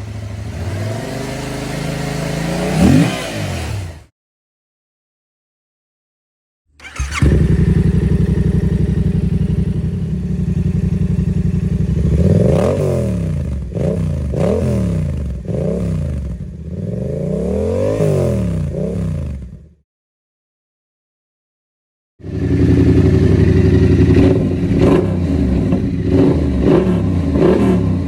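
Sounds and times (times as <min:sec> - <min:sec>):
motorcycle engine idling and revving: 0:00.0 - 0:04.1, 0:06.8 - 0:19.8, 0:22.2 - 0:28.0.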